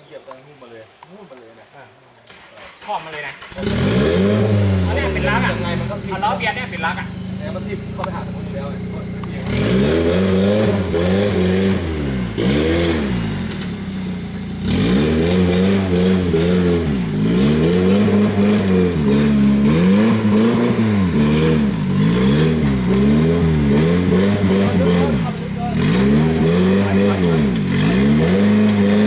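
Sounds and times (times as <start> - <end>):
off-road engine revving: 2.3 - 29.0.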